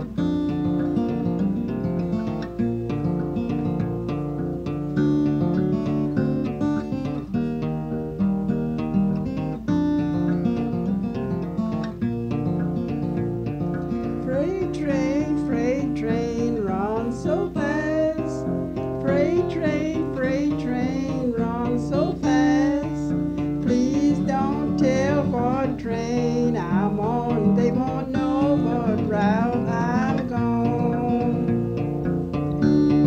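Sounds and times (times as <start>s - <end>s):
acoustic guitar music: 0.0s - 33.0s.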